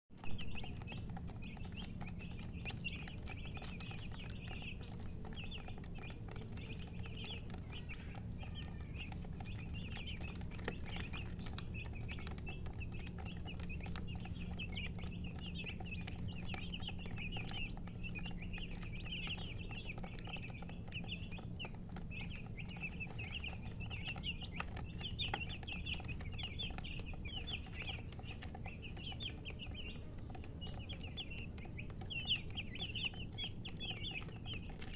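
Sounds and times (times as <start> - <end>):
chickens chirping: 0.1 - 34.9
steady low hum: 0.1 - 34.9.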